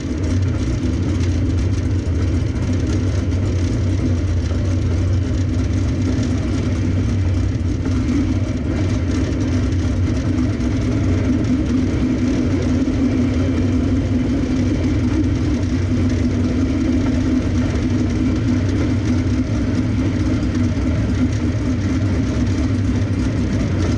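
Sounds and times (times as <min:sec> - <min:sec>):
race car engine running at low revs: 0:00.0 - 0:23.9.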